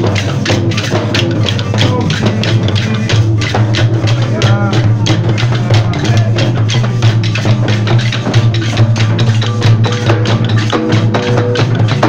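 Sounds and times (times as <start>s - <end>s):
frame drums struck by hand: 0.0s - 12.0s
wooden clappers clacking: 0.0s - 12.0s.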